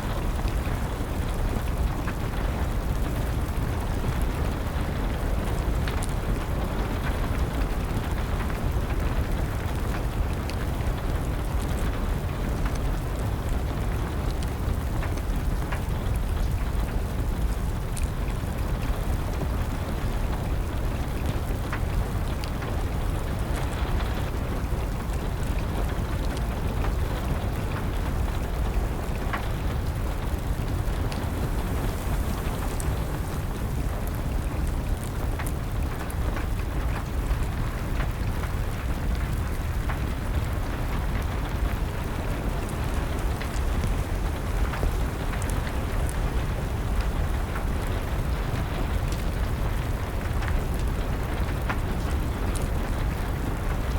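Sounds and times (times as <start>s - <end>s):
steady rain: 0.0s - 53.9s
wood fire crackling: 0.0s - 53.9s.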